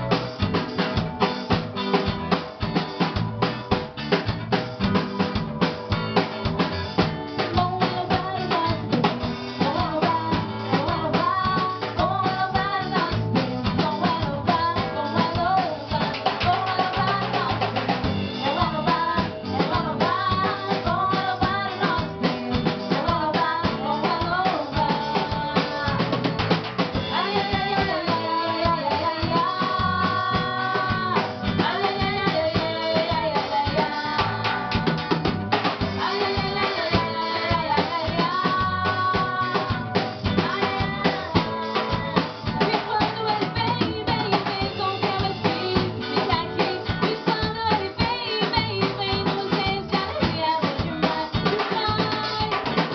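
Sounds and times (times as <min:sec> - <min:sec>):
band playing carnival music: 0:00.0 - 0:52.9
snare and bass drum beat: 0:00.0 - 0:52.9.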